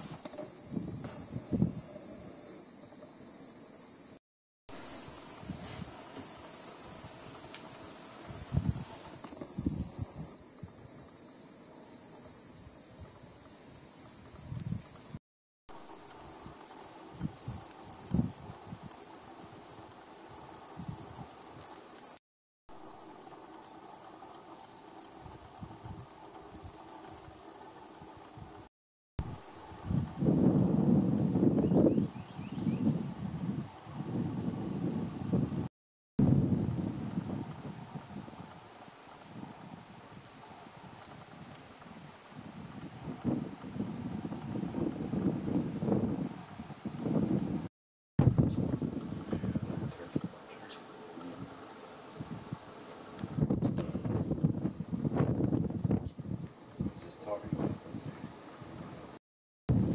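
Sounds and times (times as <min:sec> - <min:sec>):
insects buzzing: 0:00.0 - 0:35.7, 0:36.3 - 0:59.9.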